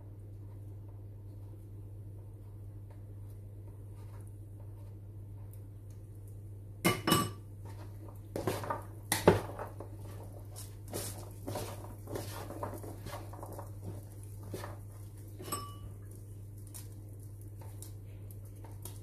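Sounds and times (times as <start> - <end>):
wooden spoon stirring pasta in bowl: 0.2 - 6.4, 7.4 - 19.0.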